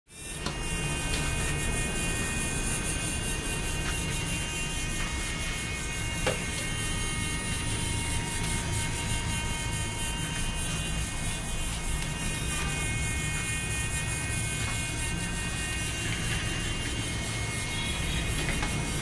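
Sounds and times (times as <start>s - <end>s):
small electric motor whirring: 0.1s - 19.0s.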